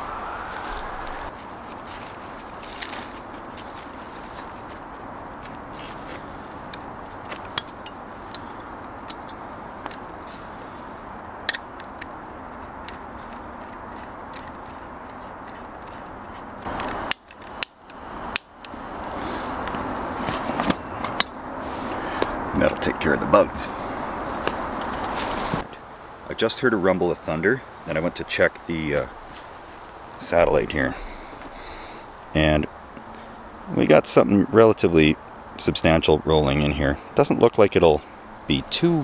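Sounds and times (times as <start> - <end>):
steady background hiss: 0.0 - 13.4, 16.2 - 39.0.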